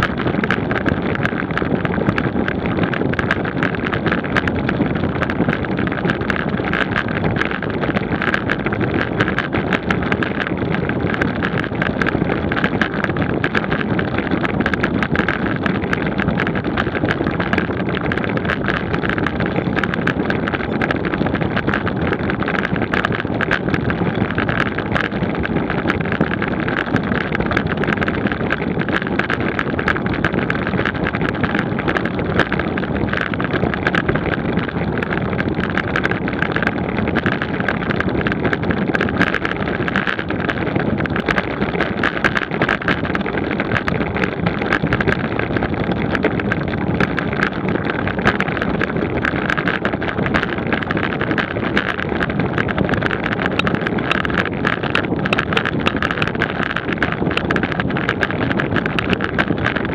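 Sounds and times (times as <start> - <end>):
small ticks and rattles: 0.0 - 59.9
tyre and road noise: 0.0 - 59.9
wind rushing over microphone: 0.0 - 59.9.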